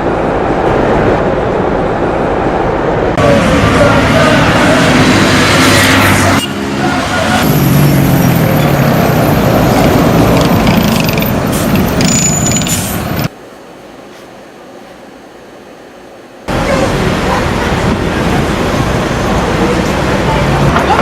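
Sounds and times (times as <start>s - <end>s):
heavy vehicles and machinery: 0.0s - 13.4s, 16.5s - 21.0s.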